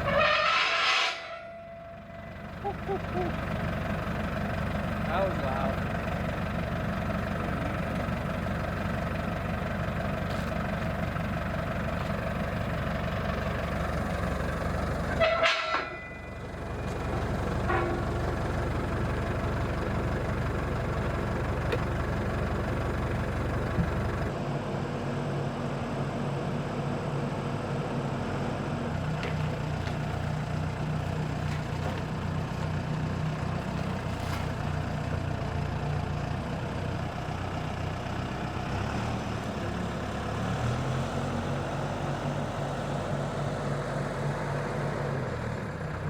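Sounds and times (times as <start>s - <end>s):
engine humming steadily: 0.0s - 46.0s.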